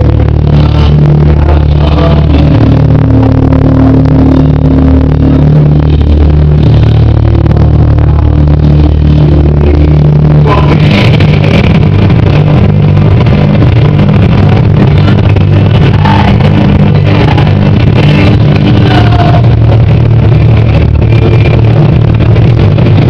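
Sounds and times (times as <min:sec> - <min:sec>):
paso doble music over sound system: 0:00.0 - 0:23.0.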